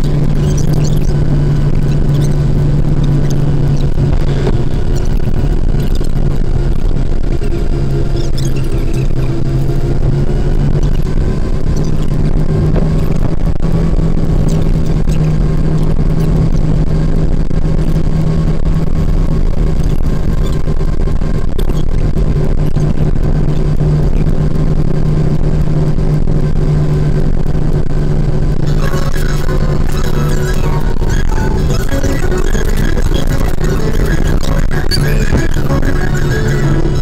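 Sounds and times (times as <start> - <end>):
car engine humming inside cabin: 0.0 - 37.0.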